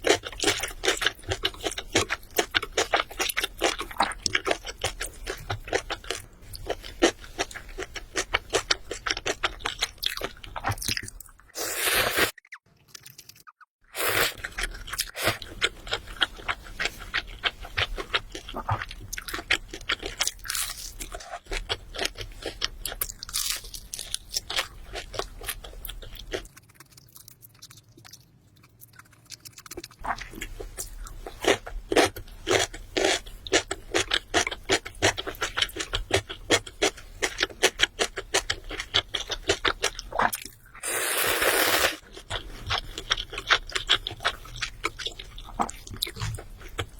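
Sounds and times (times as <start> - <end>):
crunching and chewing fried chicken: 0.0 - 46.9.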